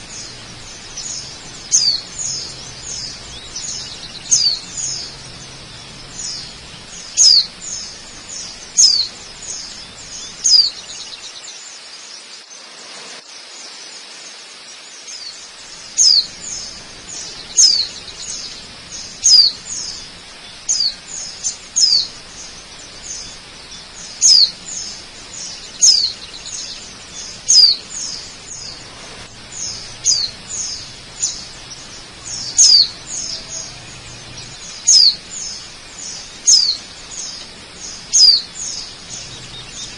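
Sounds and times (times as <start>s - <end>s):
bird chirping: 0.0s - 12.6s, 14.8s - 39.9s
rushing falling water: 0.0s - 39.9s.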